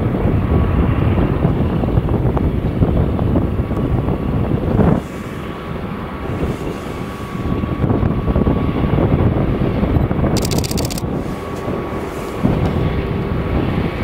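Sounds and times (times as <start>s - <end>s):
wind buffeting microphone: 0.0s - 14.0s
diesel locomotive engines drone: 0.1s - 14.0s.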